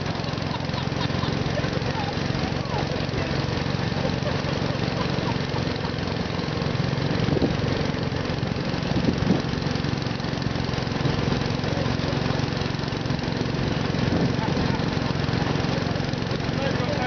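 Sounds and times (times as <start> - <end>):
small tractor engine running: 0.0 - 17.0.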